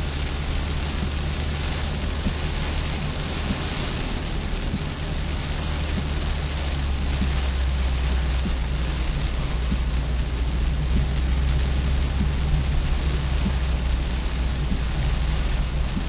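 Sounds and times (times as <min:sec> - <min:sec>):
engine and road noise: 0:00.0 - 0:16.0
rain pattering on a car: 0:00.0 - 0:16.0.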